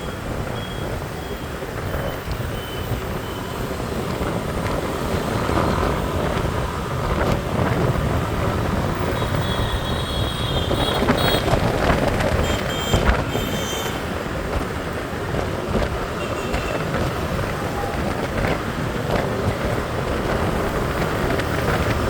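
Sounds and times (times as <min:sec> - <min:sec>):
street traffic rumble: 0:00.0 - 0:22.0
wind noise on microphone: 0:00.0 - 0:22.0.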